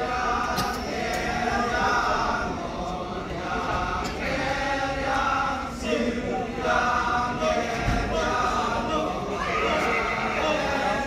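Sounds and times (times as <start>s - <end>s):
men chanting in chorus: 0.0s - 11.0s.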